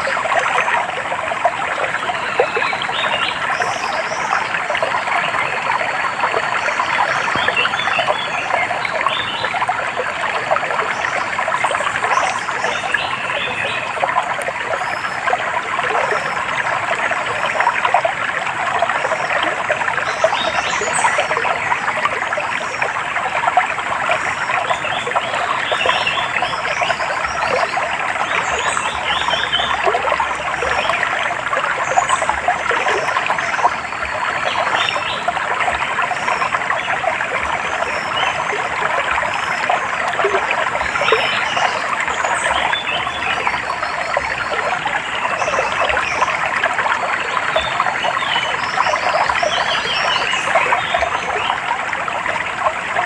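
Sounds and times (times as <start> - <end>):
stream water trickling: 0.0 - 53.0.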